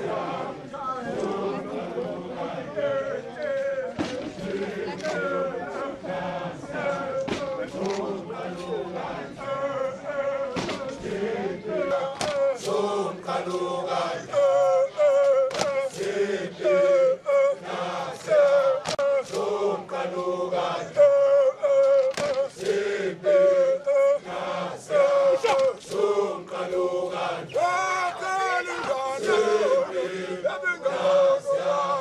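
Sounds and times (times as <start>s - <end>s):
men chanting together: 0.0s - 32.0s.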